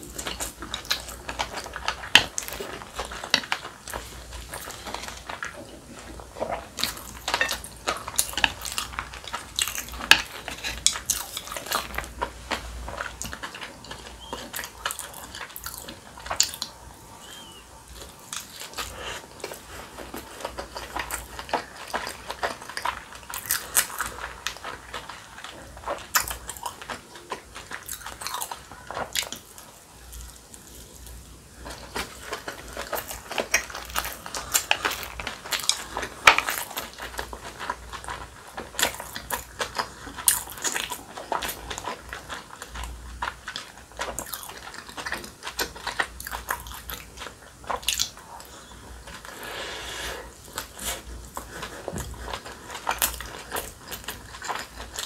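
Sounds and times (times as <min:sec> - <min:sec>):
crisp chewing crunches: 0:00.0 - 0:55.0.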